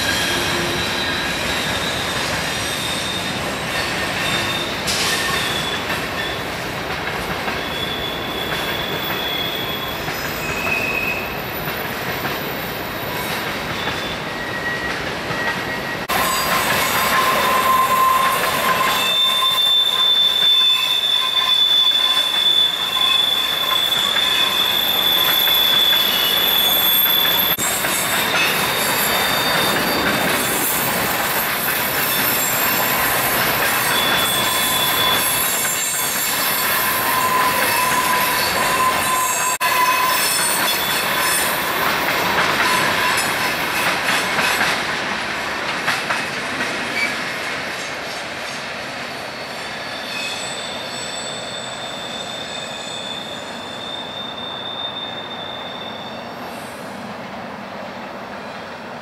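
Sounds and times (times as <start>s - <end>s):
steel wheels squealing: 0.0s - 6.7s, 7.3s - 44.7s, 49.0s - 56.9s.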